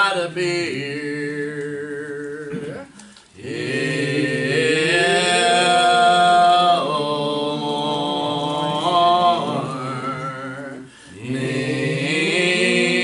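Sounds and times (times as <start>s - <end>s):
choir singing a slow hymn: 0.0s - 2.7s, 3.4s - 13.0s.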